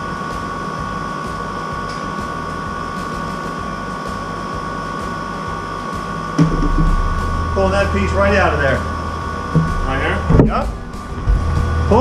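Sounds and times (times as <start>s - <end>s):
high whine: 0.0s - 12.0s
machinery drone: 0.0s - 12.0s.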